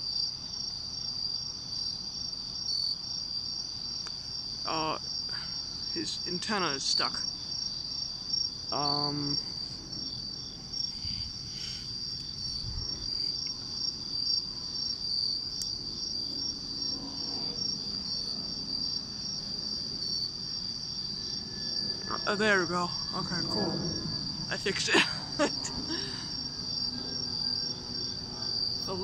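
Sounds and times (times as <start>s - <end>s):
fast pulsing insect chirp: 0.0s - 29.0s
insects trilling: 0.0s - 29.0s.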